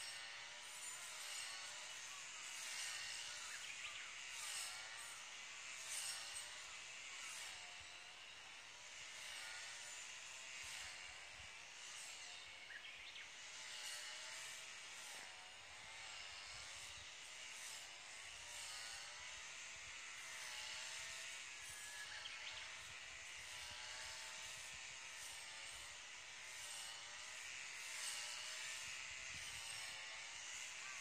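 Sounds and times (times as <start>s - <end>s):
distant brush cutter engine: 0.0s - 31.0s.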